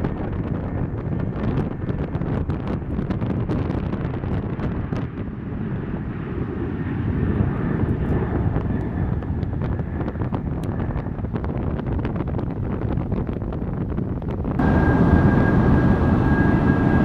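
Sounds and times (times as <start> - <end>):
jet engine high whine: 0.0 - 17.0
jet engines low rumble: 0.0 - 17.0.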